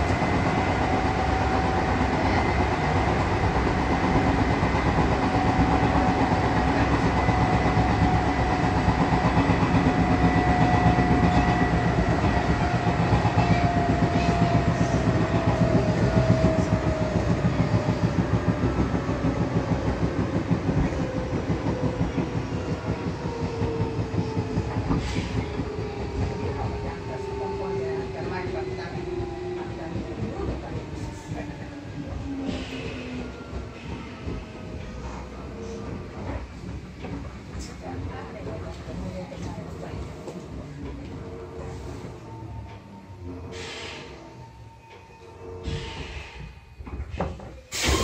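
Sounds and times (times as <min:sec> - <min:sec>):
train wheels clicking over rails: 0:00.0 - 0:42.8.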